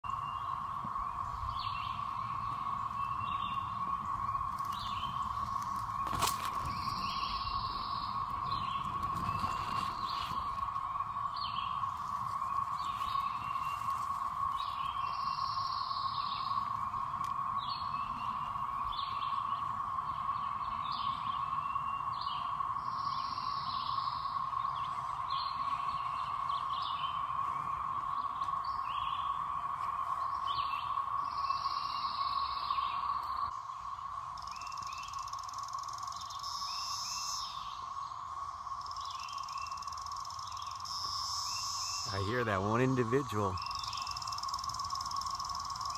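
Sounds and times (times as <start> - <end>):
cicada chorus drone: 0.0 - 45.9
short high insect calls: 0.0 - 45.9.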